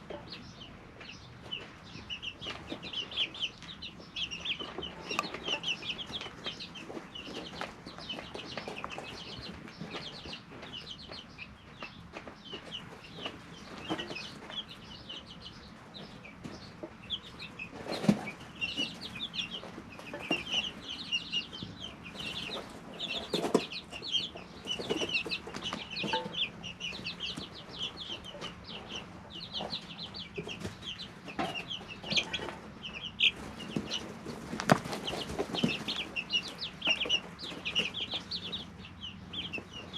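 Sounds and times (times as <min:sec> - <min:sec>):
chicks peeping and chirping: 0:00.0 - 0:39.9.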